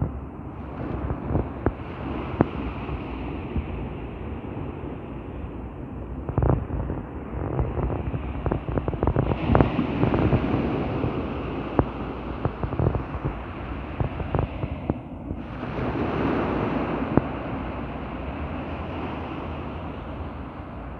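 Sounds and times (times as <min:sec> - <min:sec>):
wind buffeting microphone: 0:00.0 - 0:20.9
surf breaking on beach: 0:00.6 - 0:20.9.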